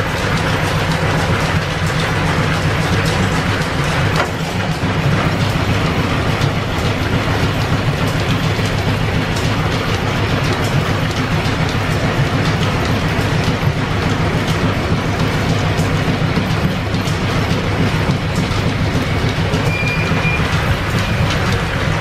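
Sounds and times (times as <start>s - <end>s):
lathe mechanical clatter: 0.0s - 22.0s.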